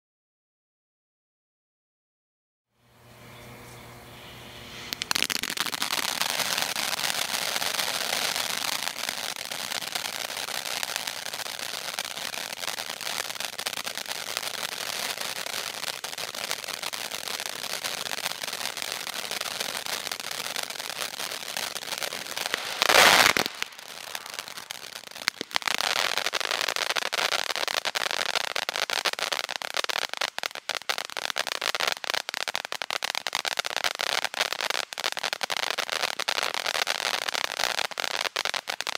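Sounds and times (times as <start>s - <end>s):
firework fountain hissing: 4.3s - 38.9s
firework crackling: 4.6s - 38.9s.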